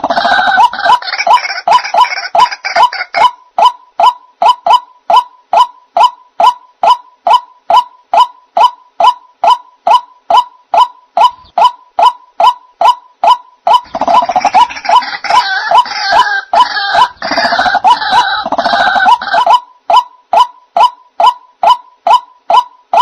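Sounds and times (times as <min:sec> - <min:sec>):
waterhen calls: 0:00.0 - 0:23.0.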